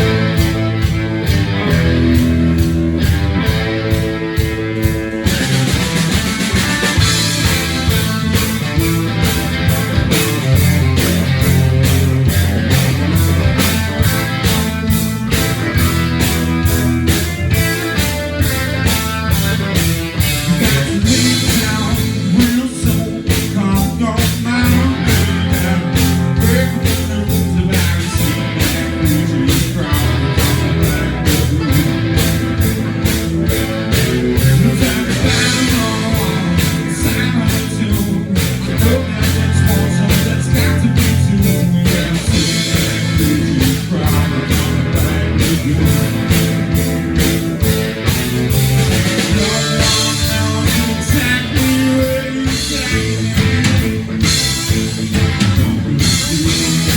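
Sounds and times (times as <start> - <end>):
guitar: 0.0 - 56.9
live rock band playing: 0.0 - 56.9
steady drum beat: 0.0 - 56.9.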